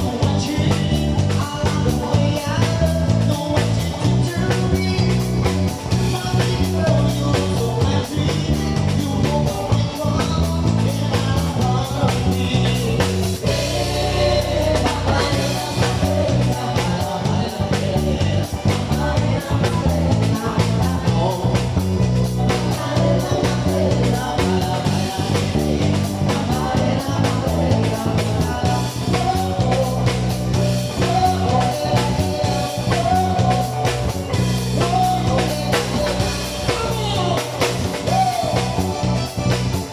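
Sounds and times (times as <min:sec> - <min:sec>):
rock band playing: 0:00.0 - 0:39.9
steady bass line: 0:00.0 - 0:39.9.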